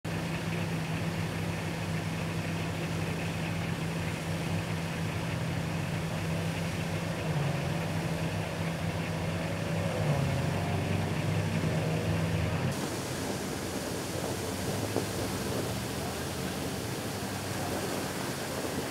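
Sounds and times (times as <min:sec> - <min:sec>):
truck engine idling: 0:00.0 - 0:18.9
water jetting from hydrant: 0:00.0 - 0:18.9.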